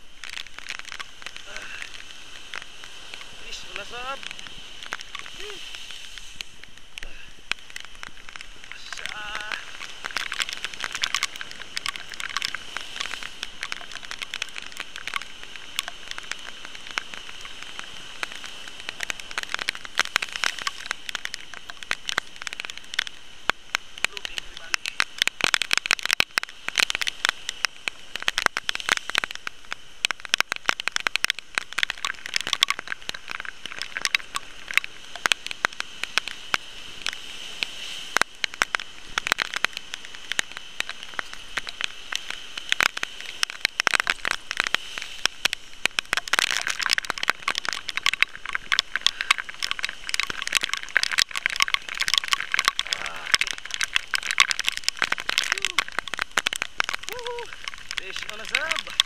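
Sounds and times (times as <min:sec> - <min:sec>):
microphone handling crackling: 0:00.0 - 0:59.0.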